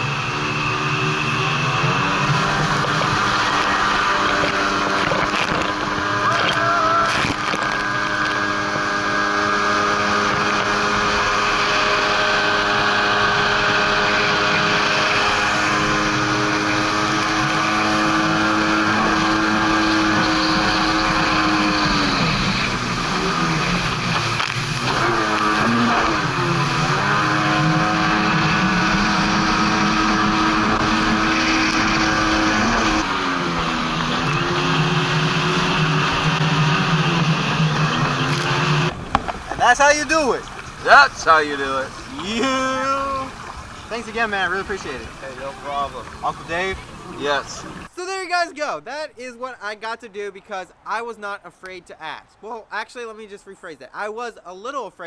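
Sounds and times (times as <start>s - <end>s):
jet ski engine running: 0.0s - 47.9s.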